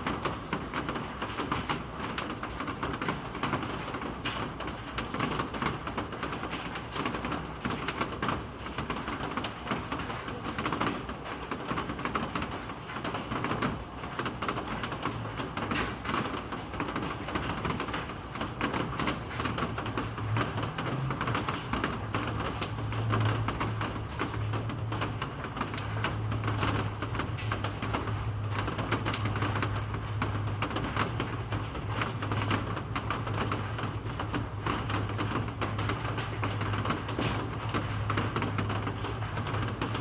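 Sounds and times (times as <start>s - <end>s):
rain pattering on hard surfaces: 0.0s - 40.0s.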